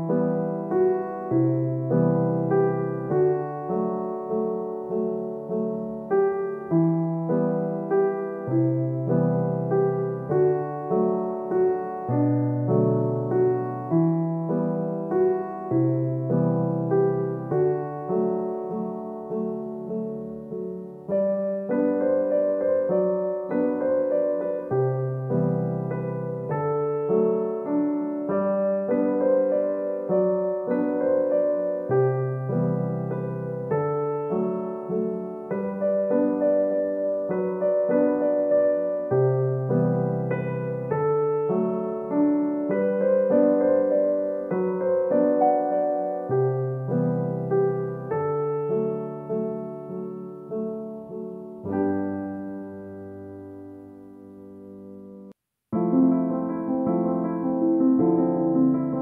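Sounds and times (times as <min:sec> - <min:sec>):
gentle piano melody: 0:00.0 - 0:59.0.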